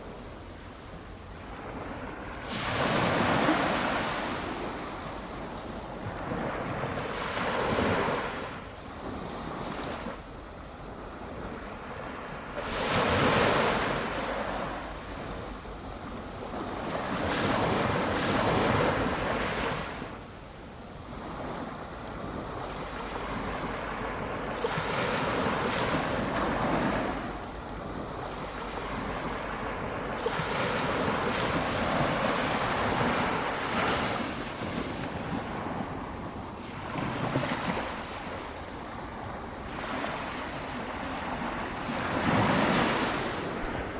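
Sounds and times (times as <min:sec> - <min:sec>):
small waves breaking on beach: 0:01.4 - 0:10.2, 0:10.8 - 0:20.3, 0:21.0 - 0:43.9.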